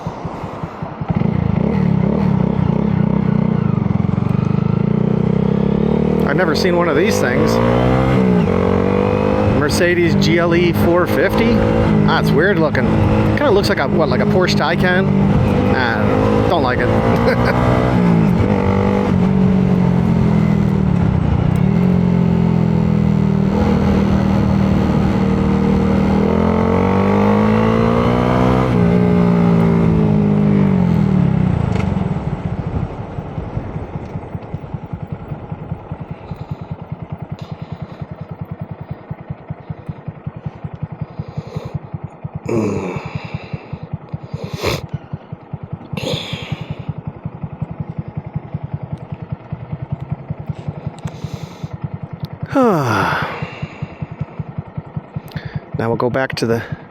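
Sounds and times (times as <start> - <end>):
motorcycle engine revving and idling: 0.0 - 56.9.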